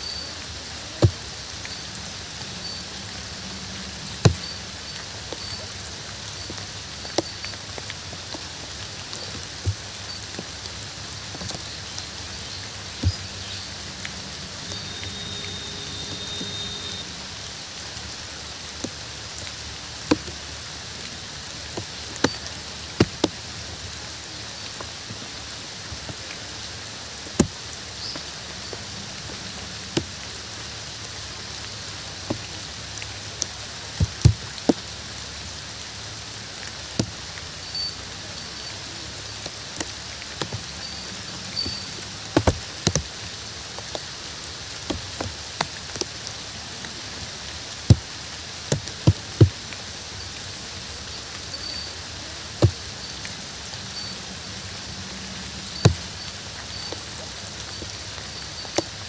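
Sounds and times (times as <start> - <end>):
sharp water drips: 0.0 - 59.0
steady rain: 0.0 - 59.0.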